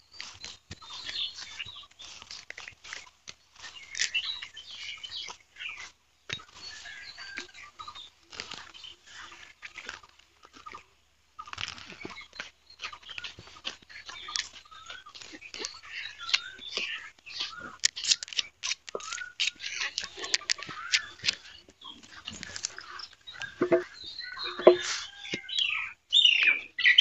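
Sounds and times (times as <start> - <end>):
plants crunching and rustling: 0.0 - 25.6.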